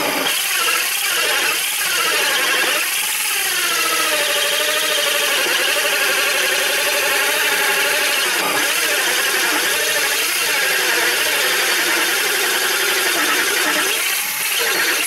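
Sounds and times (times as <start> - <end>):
power drill with hole saw whining: 0.0 - 15.0.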